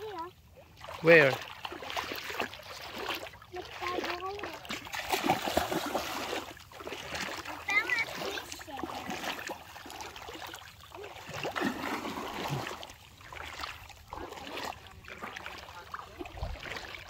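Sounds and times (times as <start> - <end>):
shallow seawater sloshing: 0.0 - 17.0.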